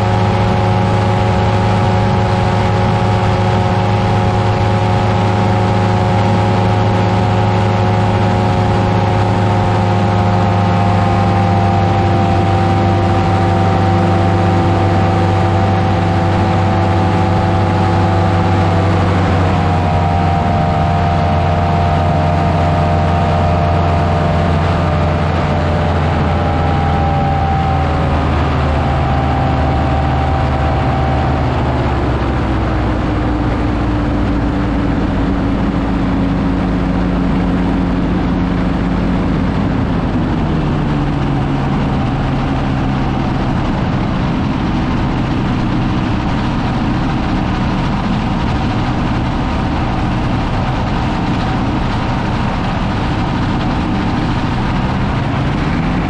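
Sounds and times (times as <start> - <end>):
engine and propeller running: 0.0 - 56.0.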